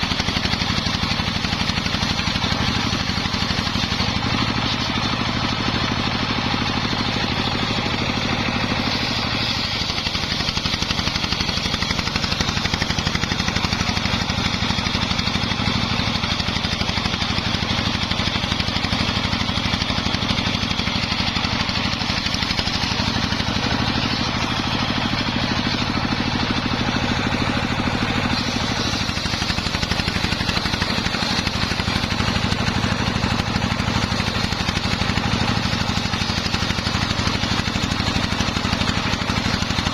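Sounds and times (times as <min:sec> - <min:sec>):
circular sawmill engine chugging: 0:00.0 - 0:39.9.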